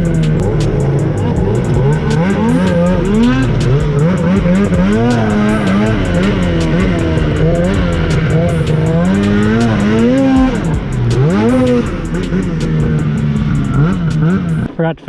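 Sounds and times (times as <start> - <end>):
snowmobile engine revving: 0.0 - 14.7.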